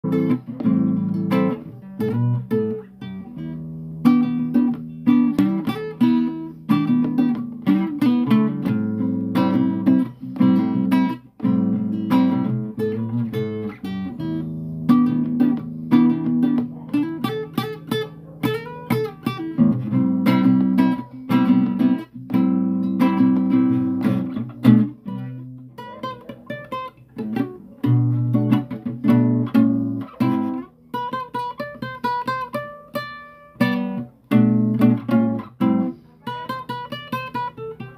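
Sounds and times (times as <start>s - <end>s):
acoustic guitar strummed and plucked: 0.0s - 37.9s.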